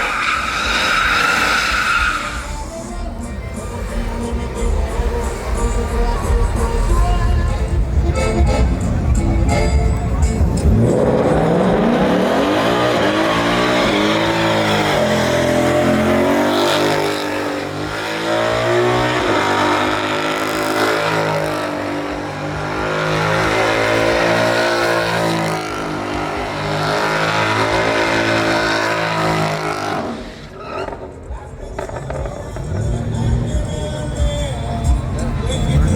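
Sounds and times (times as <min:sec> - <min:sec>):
truck engine revving high: 0:00.0 - 0:35.9.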